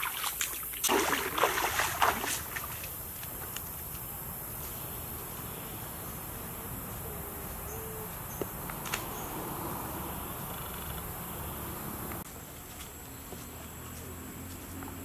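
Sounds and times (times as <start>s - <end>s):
high insect drone: 0.0s - 12.2s.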